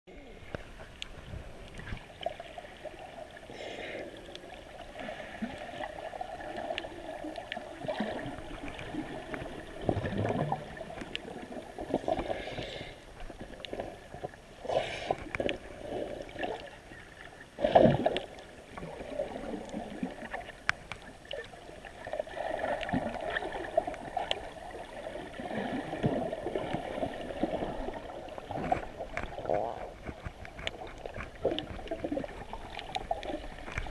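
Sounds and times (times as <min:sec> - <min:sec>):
underwater water sloshing: 0:00.1 - 0:33.9.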